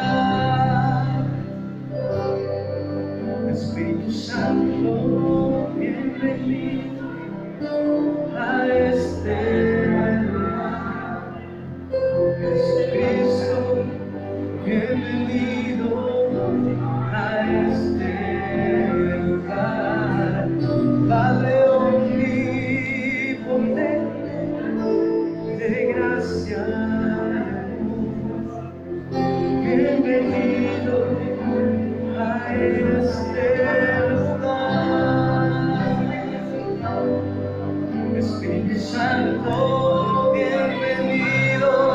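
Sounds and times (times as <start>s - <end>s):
voices singing worship song: 0.0s - 41.9s.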